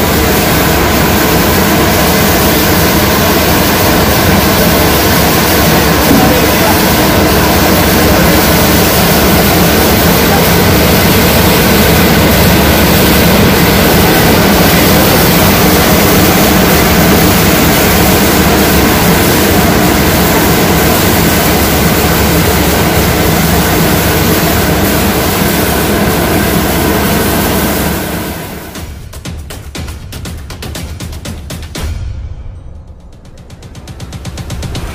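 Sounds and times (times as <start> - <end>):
grinding mill machinery din: 0.0 - 28.8
constant machine hum: 0.0 - 34.9.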